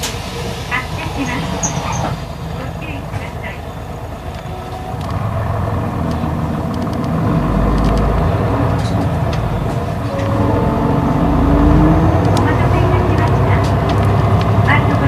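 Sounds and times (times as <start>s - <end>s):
bus diesel engine pulling away: 0.0s - 15.0s.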